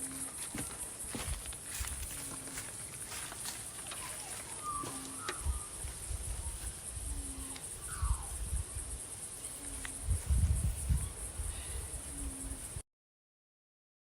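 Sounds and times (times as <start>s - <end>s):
crickets chirring: 0.0s - 12.8s.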